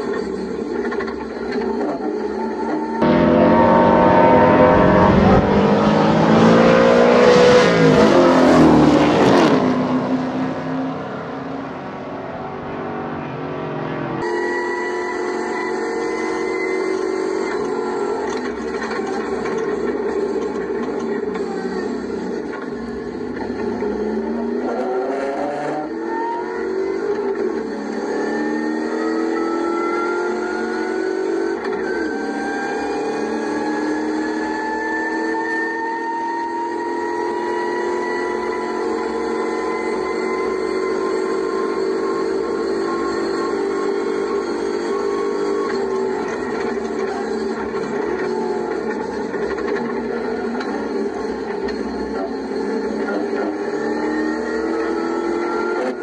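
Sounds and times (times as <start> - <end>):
race cars accelerating past: 0.1 - 56.0.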